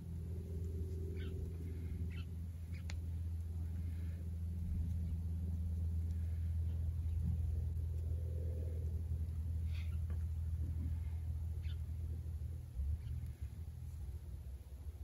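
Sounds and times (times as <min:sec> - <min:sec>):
low mechanical rumble with hum: 0:00.0 - 0:15.0.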